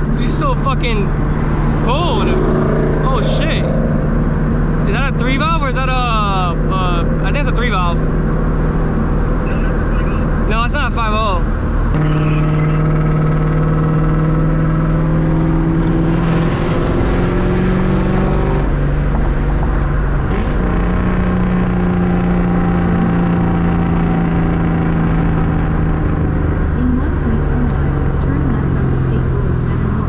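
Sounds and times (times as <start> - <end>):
loud car engine at speed: 0.0 - 30.0.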